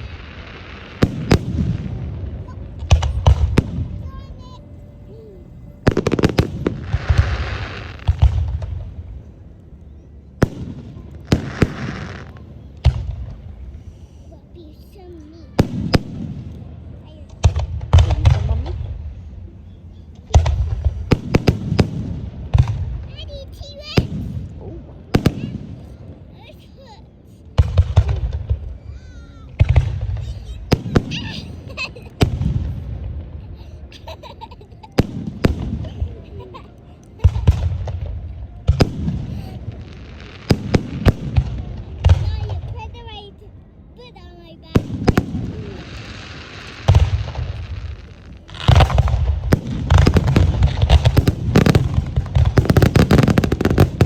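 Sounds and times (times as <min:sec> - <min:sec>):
fireworks booms: 0:00.0 - 0:04.6, 0:05.8 - 0:09.3, 0:10.4 - 0:13.8, 0:15.5 - 0:19.2, 0:20.2 - 0:26.2, 0:27.6 - 0:33.6, 0:34.9 - 0:36.3, 0:37.1 - 0:43.2, 0:44.6 - 0:54.0
fireworks bangs: 0:00.0 - 0:09.5, 0:10.4 - 0:14.8, 0:15.4 - 0:26.1, 0:27.5 - 0:43.3, 0:44.6 - 0:54.0
fireworks crackling: 0:00.0 - 0:54.0.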